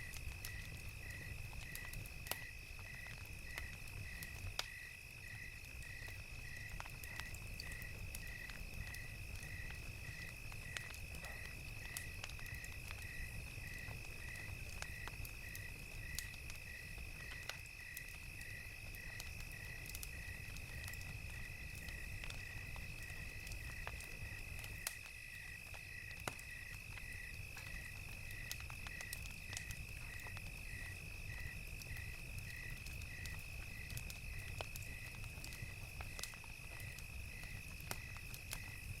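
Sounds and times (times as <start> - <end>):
crickets chirping: 0.0 - 39.0
wood fire crackling: 0.0 - 39.0.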